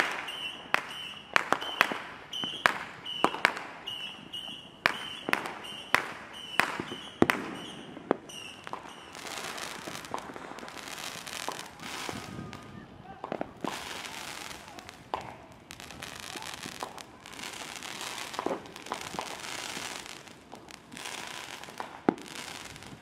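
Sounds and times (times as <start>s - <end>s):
firework launching with crackling hiss: 0.0s - 23.0s
fireworks and firecrackers banging: 0.0s - 23.0s.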